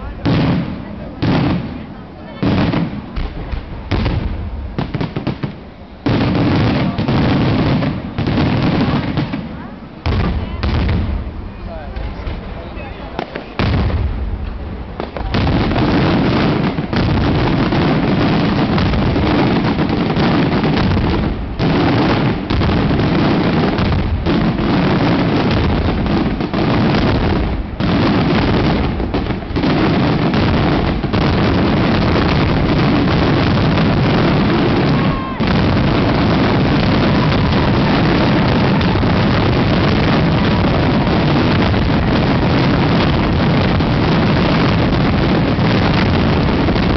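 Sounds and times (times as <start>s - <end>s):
fireworks exploding overhead: 0.0s - 46.9s.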